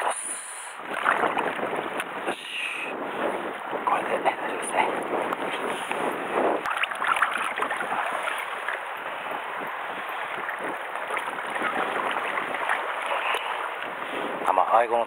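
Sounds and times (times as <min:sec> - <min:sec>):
water lapping against rocks: 0:00.0 - 0:14.7
water splashes: 0:00.0 - 0:15.0.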